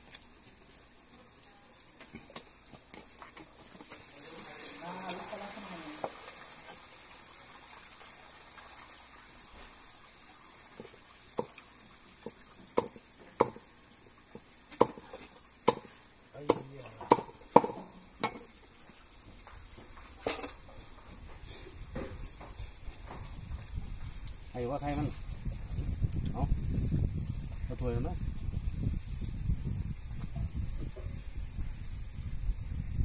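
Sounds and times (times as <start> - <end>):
faint steady hiss: 0.0 - 33.0.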